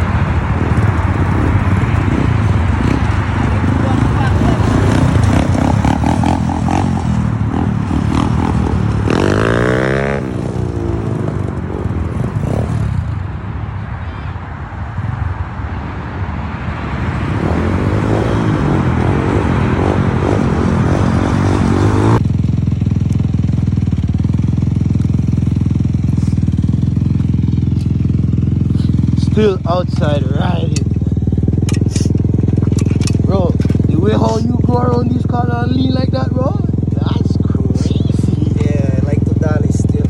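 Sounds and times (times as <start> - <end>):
dirt bike engine revving: 0.0 - 13.3, 17.1 - 40.0
low engine rumble: 0.0 - 40.0.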